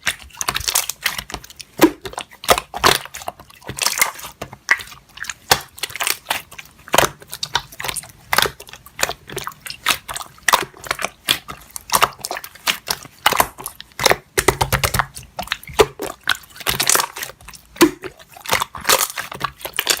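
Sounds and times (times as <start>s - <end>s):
slime squelching and popping: 0.0s - 20.0s.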